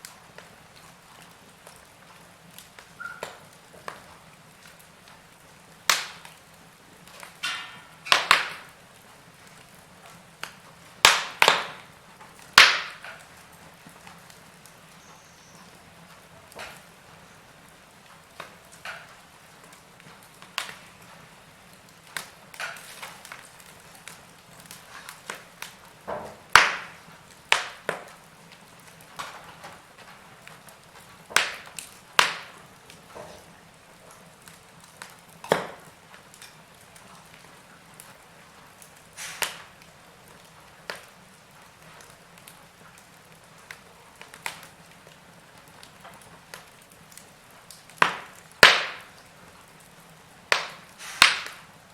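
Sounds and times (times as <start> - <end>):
wood fire crackling: 0.0 - 51.9
flames hissing: 0.1 - 51.9.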